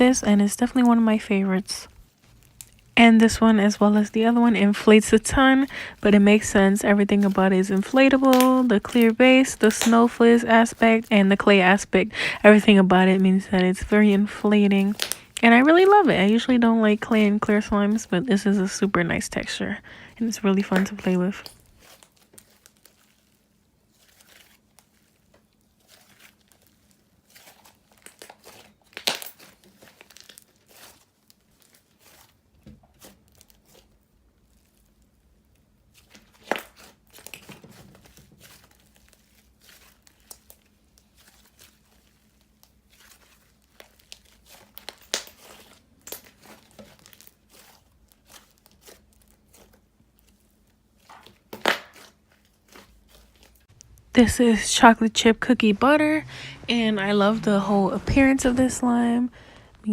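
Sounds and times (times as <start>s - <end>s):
slime crackling and popping: 0.1s - 18.3s, 20.5s - 54.2s.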